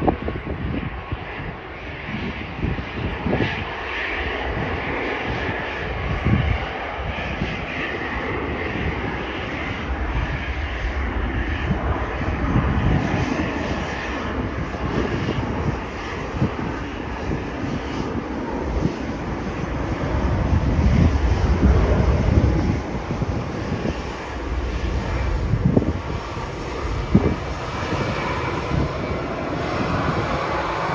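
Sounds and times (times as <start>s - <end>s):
jet engines at takeoff thrust: 0.0s - 30.9s
wind thumps on microphone: 0.0s - 30.9s.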